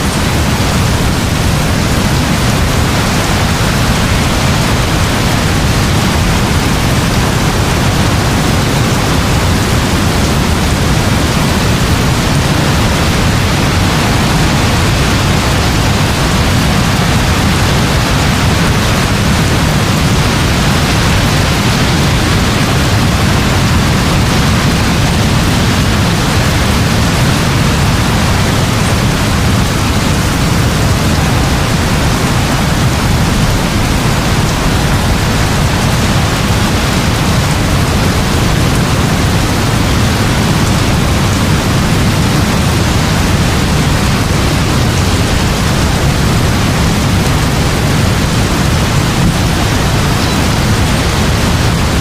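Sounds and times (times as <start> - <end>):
heavy rainfall: 0.0 - 52.0.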